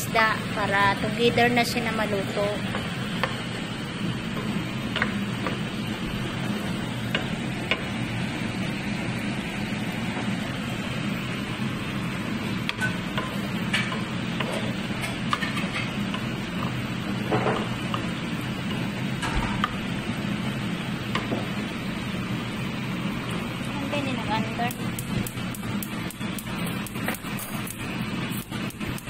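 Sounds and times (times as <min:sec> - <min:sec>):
tomatoes sizzling in hot oil: 0:00.0 - 0:29.0.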